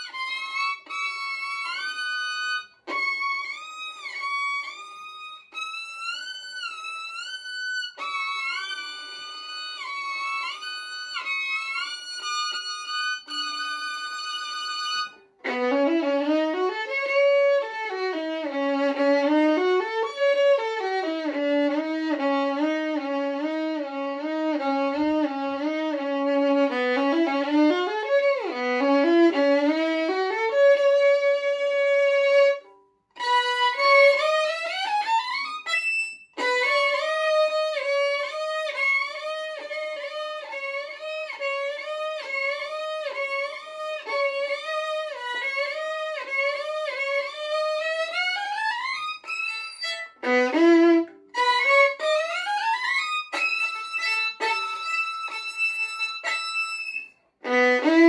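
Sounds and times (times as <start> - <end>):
solo violin sliding notes: 0.0 - 58.0.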